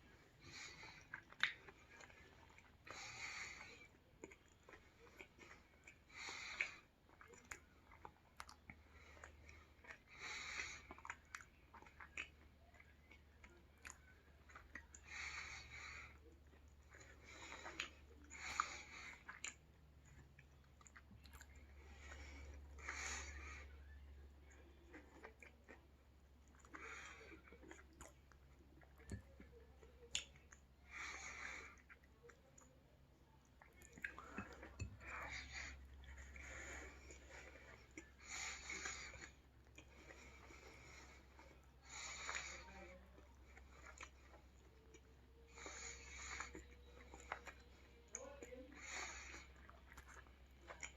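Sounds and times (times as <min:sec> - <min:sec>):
person chewing: 0:00.0 - 0:50.9.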